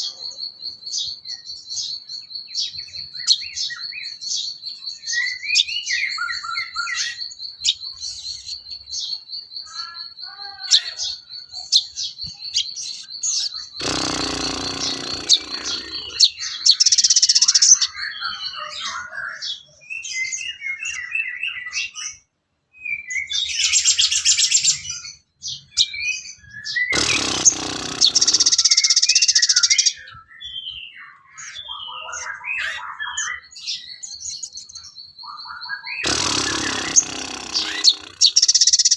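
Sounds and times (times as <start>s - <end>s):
harsh rasping bird calls: 2.5s - 19.7s, 23.4s - 30.2s, 31.1s - 38.9s.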